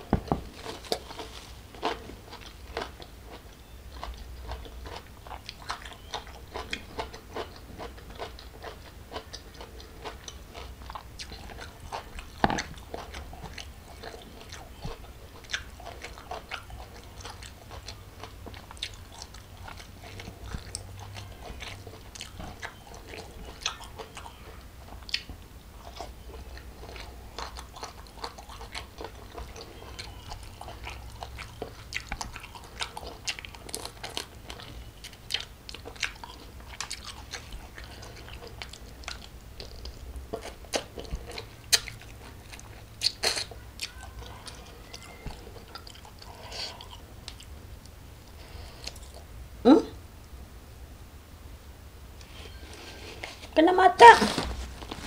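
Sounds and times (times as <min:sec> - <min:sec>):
chewing crunchy vegetables: 0:00.0 - 0:49.4, 0:52.2 - 0:53.6.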